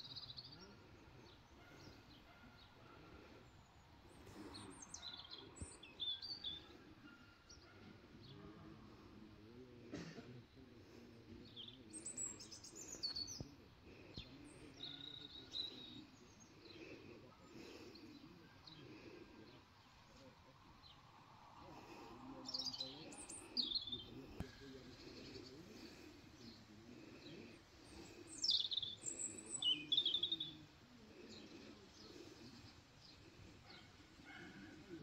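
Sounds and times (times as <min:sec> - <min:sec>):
high falling birdsong: 0:00.0 - 0:09.8, 0:10.5 - 0:35.0
small birds chirping: 0:00.0 - 0:35.0.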